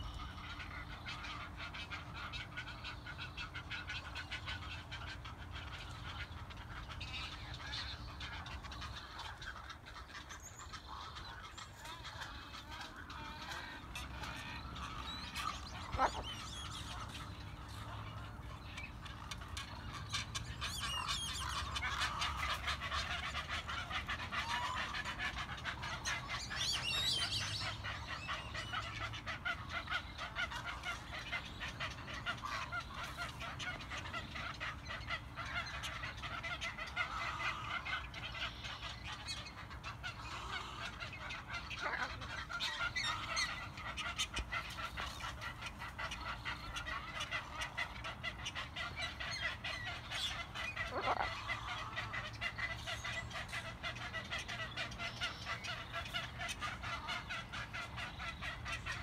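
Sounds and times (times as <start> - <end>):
chorus of bird calls: 0.0 - 59.0.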